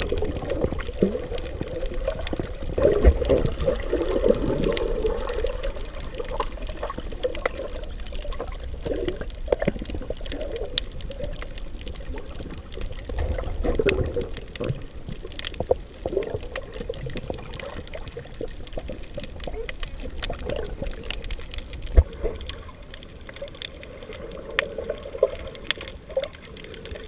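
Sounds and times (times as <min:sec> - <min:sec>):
faint clicks: 0:00.0 - 0:27.0
muffled underwater sloshing: 0:00.0 - 0:27.0.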